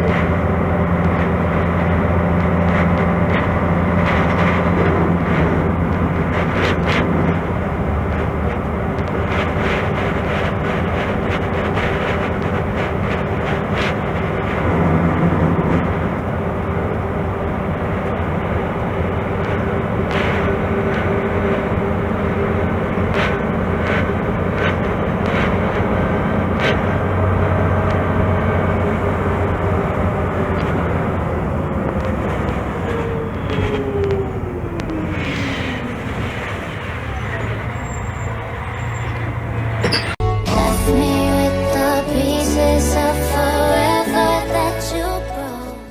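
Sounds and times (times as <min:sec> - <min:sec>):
bus diesel engine running: 0:00.0 - 0:45.9.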